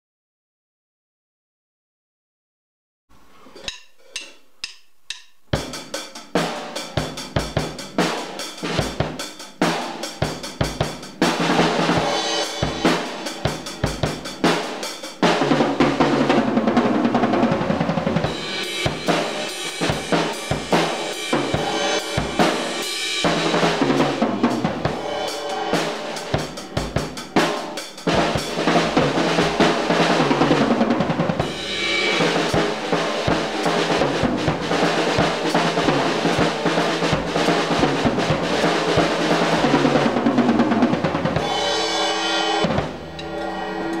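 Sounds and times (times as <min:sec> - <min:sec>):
drum kit played with sticks: 0:03.2 - 0:44.0.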